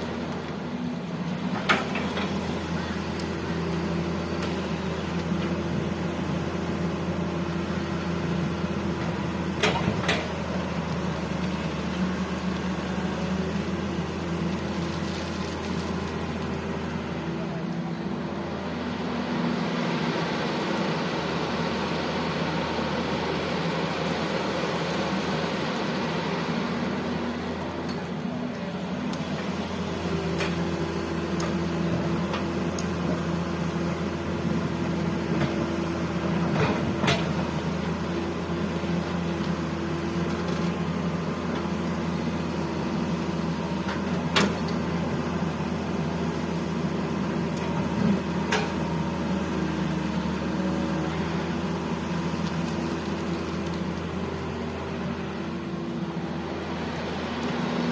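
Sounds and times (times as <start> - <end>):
diesel engines running: 0.0 - 57.9.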